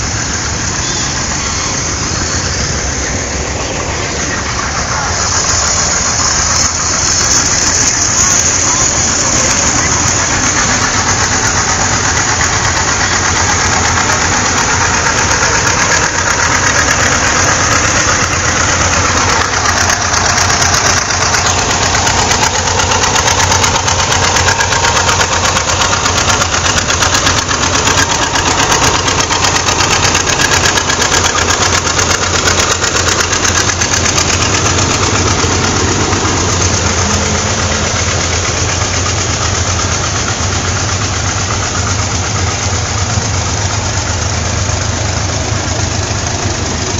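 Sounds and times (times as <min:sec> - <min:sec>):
tractor engines running: 0:00.0 - 0:46.9.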